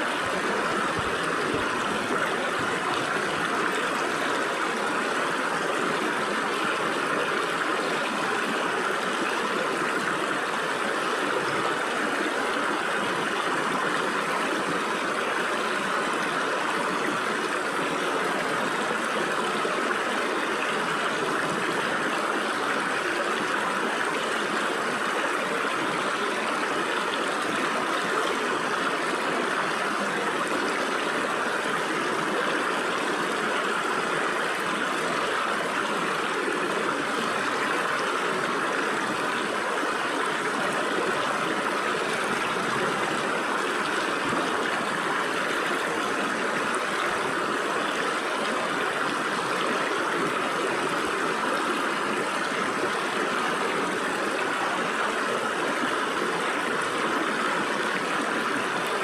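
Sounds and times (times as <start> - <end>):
stream water rushing over rocks: 0.0 - 59.0.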